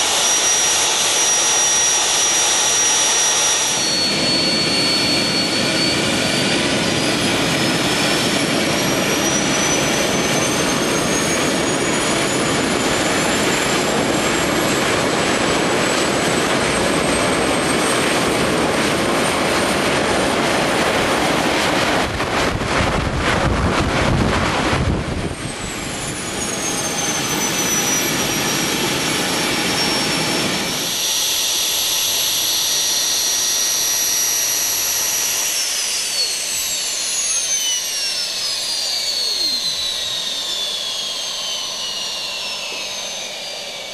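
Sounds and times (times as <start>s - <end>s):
jet engine roaring: 0.0s - 43.9s.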